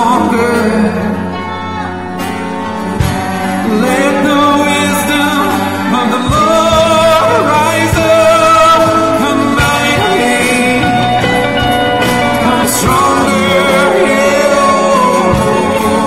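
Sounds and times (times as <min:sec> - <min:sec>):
band playing held chords: 0:00.0 - 0:16.0.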